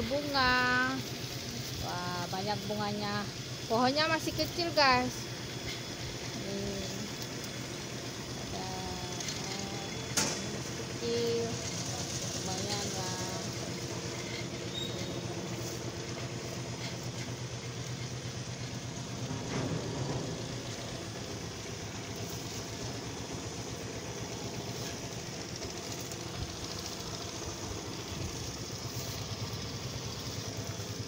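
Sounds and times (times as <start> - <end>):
engine idling: 0.0 - 31.0.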